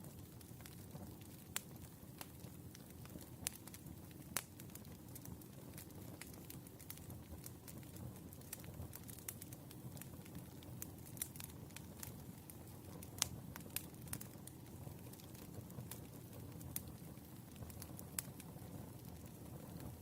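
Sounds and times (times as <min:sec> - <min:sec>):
low rumble of burning logs: 0:00.0 - 0:20.0
wood fire crackling and popping: 0:00.0 - 0:20.0.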